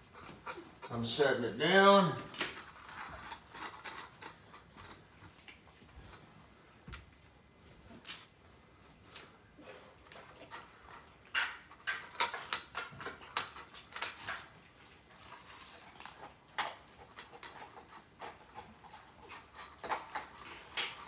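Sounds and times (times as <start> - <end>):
cats smacking and licking food: 2.2 - 21.0.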